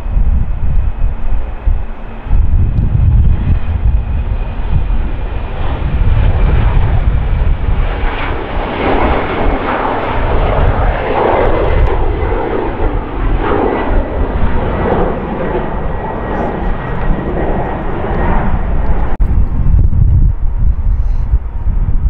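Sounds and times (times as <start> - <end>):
jet airliner taking off roaring: 0.0 - 22.0.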